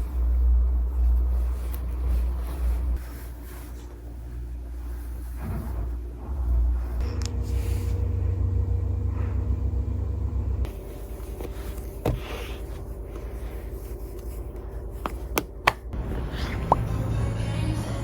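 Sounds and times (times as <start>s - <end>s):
low rumble with hum: 0.0s - 18.0s.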